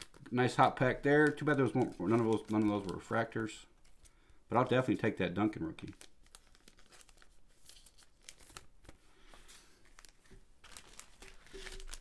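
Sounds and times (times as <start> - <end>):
trading cards crinkling and clicking: 0.0 - 4.1, 5.7 - 12.0.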